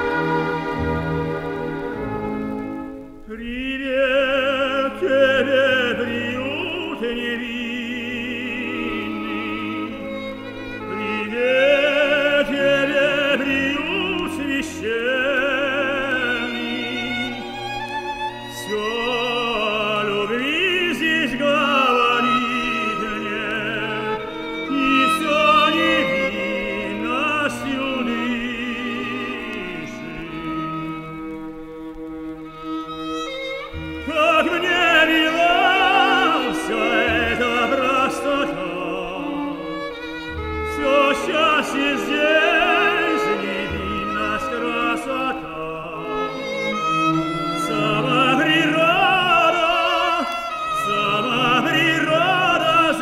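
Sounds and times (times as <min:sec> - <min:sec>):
operatic tenor singing: 0:00.0 - 0:53.0
orchestral accompaniment: 0:00.0 - 0:53.0.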